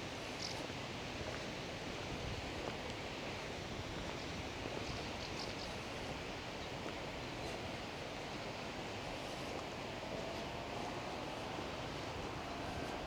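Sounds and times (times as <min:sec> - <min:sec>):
wind-like outdoor hiss: 0:00.0 - 0:13.0.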